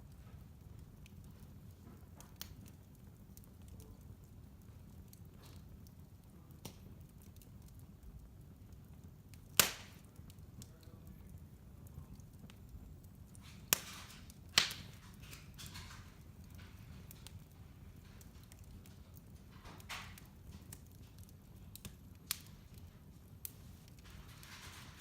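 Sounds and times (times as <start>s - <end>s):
fire crackling: 0.0s - 25.0s
sharp pops from burning logs: 0.0s - 25.0s
wood fire rumbling: 0.0s - 25.0s.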